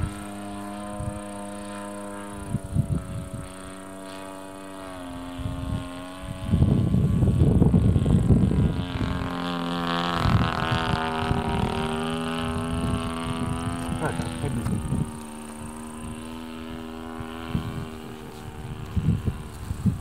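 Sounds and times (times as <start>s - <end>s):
model airplane engine buzzing: 0.0s - 20.0s
wind buffeting microphone: 0.0s - 20.0s.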